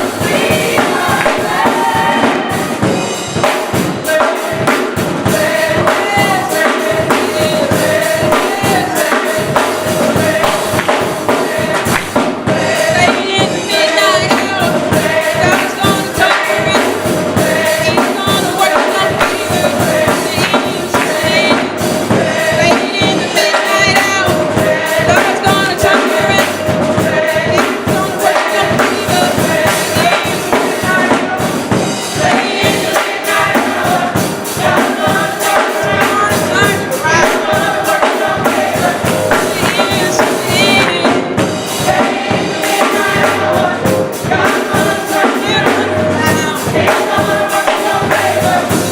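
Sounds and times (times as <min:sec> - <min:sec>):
drum beat: 0:00.0 - 0:48.9
gospel choir singing: 0:00.0 - 0:48.9.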